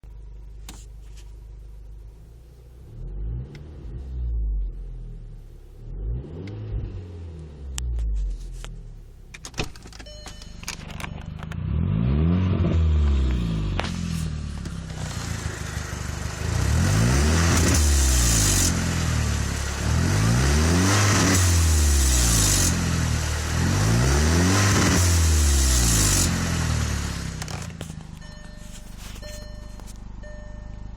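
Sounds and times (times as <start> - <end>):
car engine revving: 2.4 - 10.0, 10.6 - 30.7.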